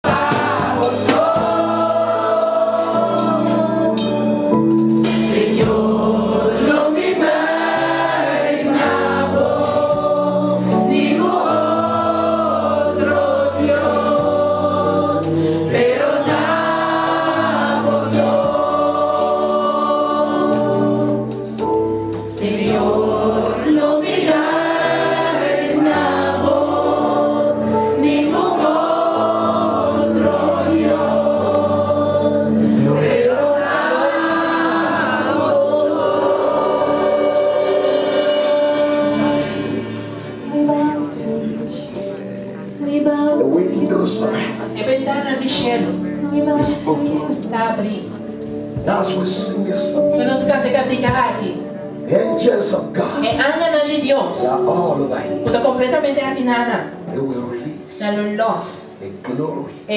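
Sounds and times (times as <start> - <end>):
congregation singing: 0.0 - 59.9
musical accompaniment: 0.0 - 59.9.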